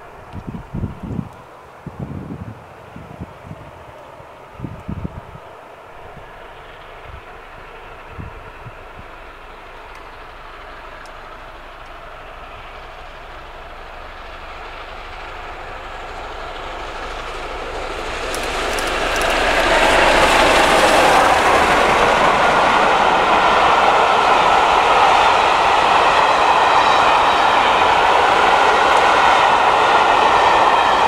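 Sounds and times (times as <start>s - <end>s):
train rolling past: 0.0s - 31.0s
steam locomotive chuffing: 3.4s - 31.0s.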